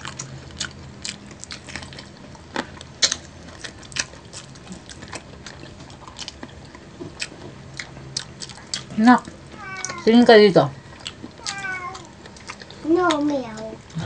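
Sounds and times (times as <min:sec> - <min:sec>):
crunchy chewing of fried chicken: 0:00.0 - 0:10.1, 0:10.8 - 0:14.0.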